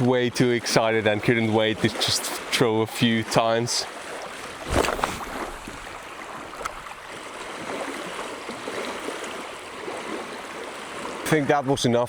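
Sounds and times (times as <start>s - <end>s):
small waves lapping at shore: 0.0s - 12.0s.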